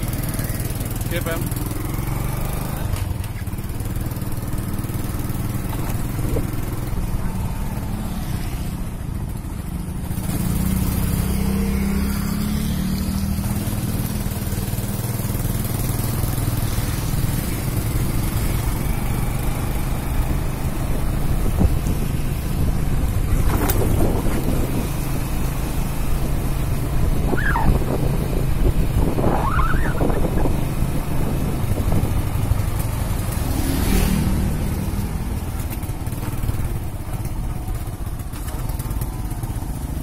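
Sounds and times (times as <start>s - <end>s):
motorbike engine running: 0.0s - 40.0s
rushing air and road noise: 0.0s - 40.0s.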